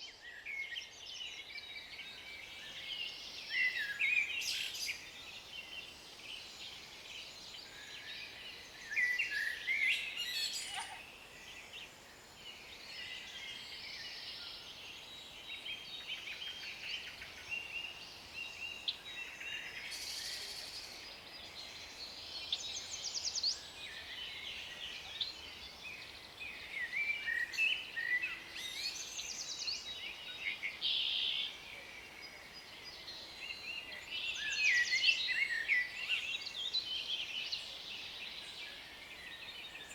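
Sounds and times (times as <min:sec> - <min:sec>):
faint outdoor air hiss: 0:00.0 - 0:39.9
songbirds singing and chirping: 0:00.0 - 0:39.9.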